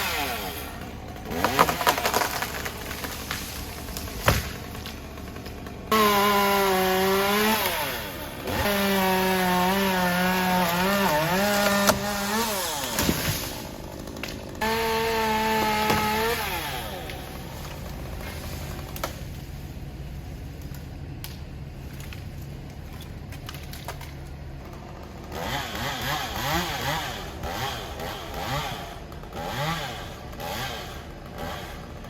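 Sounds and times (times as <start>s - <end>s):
chainsaw cutting wood: 0.0s - 20.0s, 22.0s - 32.0s.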